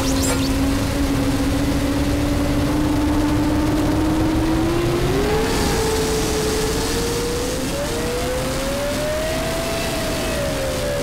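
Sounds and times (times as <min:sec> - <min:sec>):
powerboat engines droning: 0:00.0 - 0:11.0.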